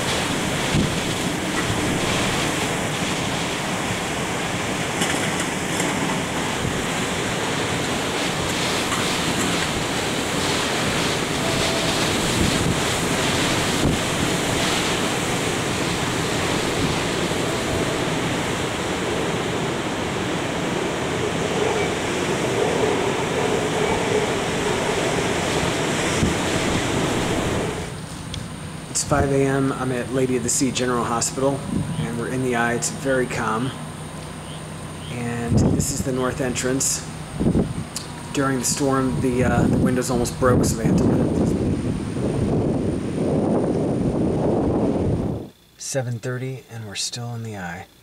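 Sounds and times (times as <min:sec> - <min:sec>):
gusts buffeting microphone: 0:00.0 - 0:45.7
strong wind: 0:00.0 - 0:45.7
driving rain: 0:00.0 - 0:46.0.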